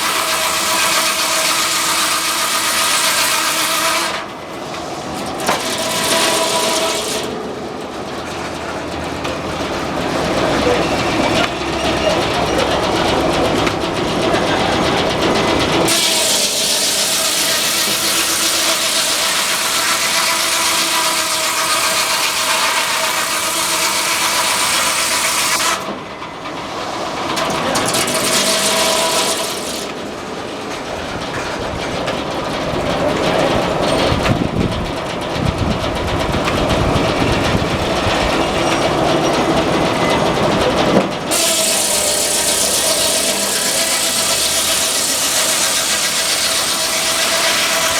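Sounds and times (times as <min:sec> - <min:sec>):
machinery rumbling: 0:00.0 - 0:47.9
sawmill rushing noise: 0:00.0 - 0:47.9.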